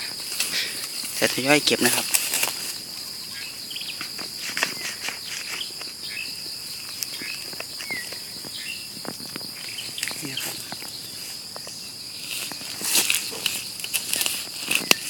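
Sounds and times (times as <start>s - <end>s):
high-pitched insect chirring: 0.0s - 15.0s
rustling of leaf litter: 0.0s - 15.0s.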